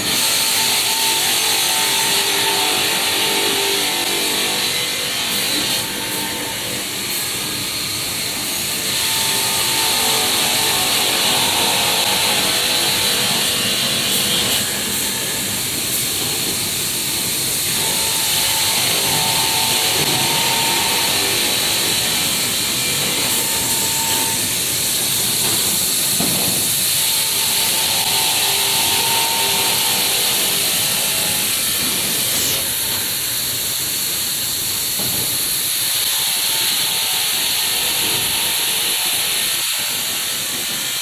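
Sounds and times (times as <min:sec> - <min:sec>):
cutting machinery hissing: 0:00.0 - 0:41.0.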